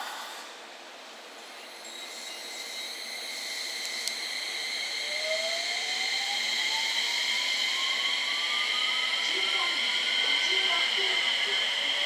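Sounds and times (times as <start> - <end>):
electric train motor whine: 1.4 - 12.0.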